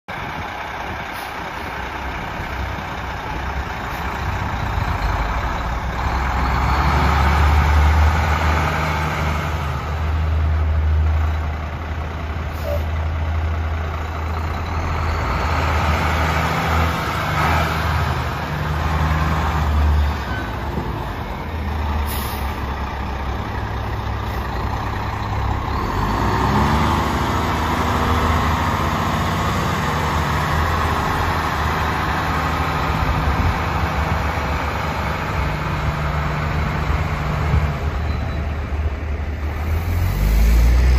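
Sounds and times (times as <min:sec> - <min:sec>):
diesel truck engine running: 0:00.1 - 0:40.9.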